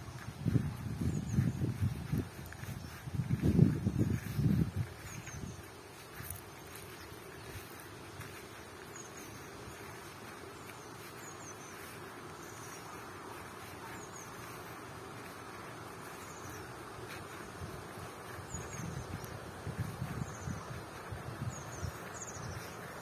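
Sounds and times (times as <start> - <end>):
insects buzzing: 1.0 - 23.0.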